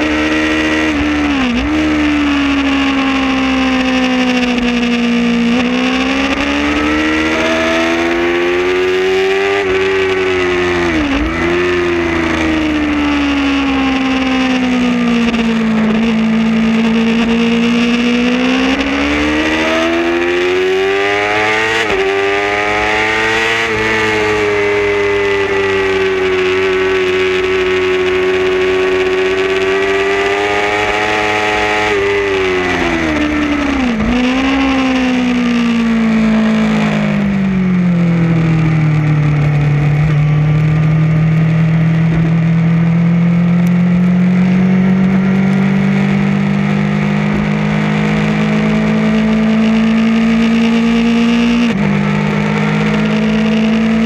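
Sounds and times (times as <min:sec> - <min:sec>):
racing motorcycle engine: 0:00.0 - 0:54.0.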